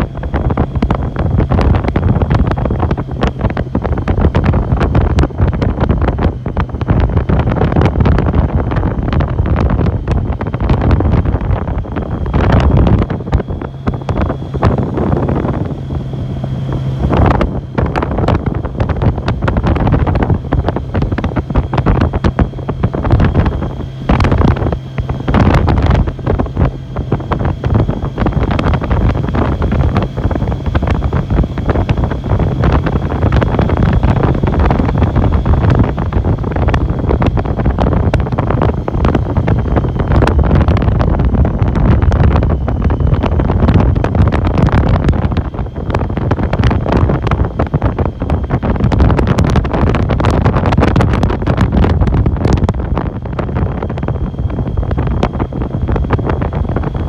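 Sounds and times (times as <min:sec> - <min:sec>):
motorcycle engine droning: 0:00.0 - 0:57.0
wind buffeting microphone: 0:00.0 - 0:57.0.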